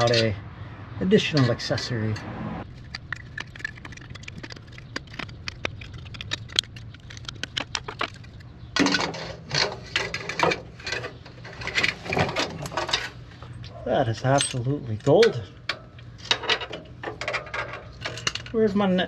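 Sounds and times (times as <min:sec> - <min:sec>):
small metal parts clinking: 0:02.8 - 0:18.7.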